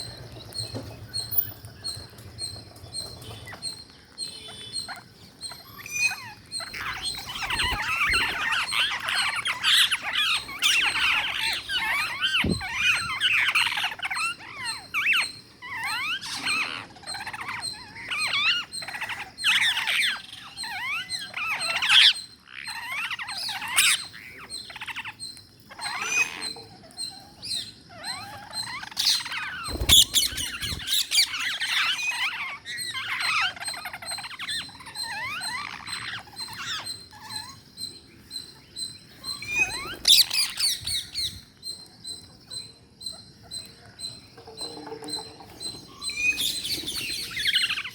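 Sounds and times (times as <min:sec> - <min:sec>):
parrots chattering and squawking: 0:00.0 - 0:47.9.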